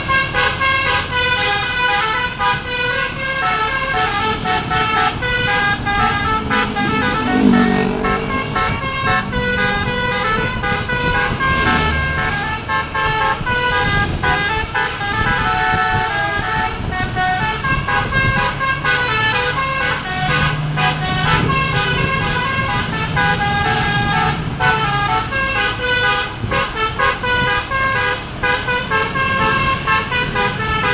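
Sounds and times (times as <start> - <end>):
bus musical horn playing tune: 0.0 - 30.9.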